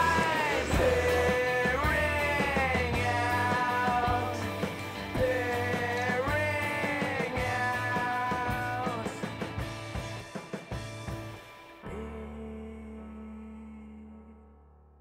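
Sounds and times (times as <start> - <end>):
sliding lead melody: 0.0 - 12.4
steady low notes: 0.0 - 13.4.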